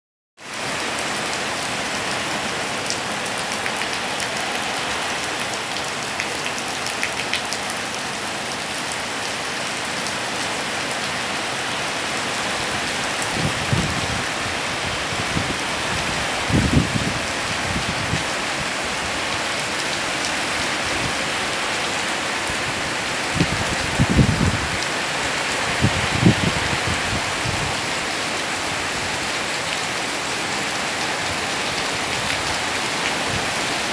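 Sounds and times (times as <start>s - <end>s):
heavy rain on paving and roofs: 0.4s - 33.9s.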